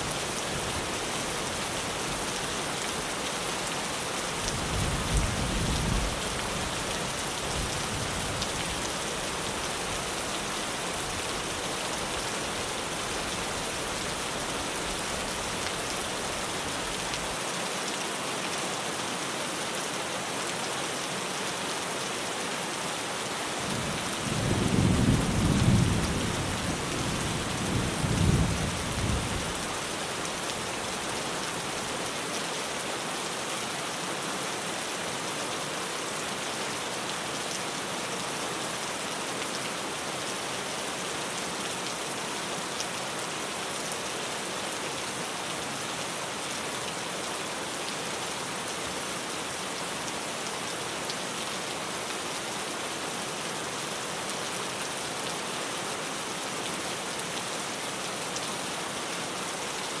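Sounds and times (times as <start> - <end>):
rain on a tin roof: 0.0 - 60.0.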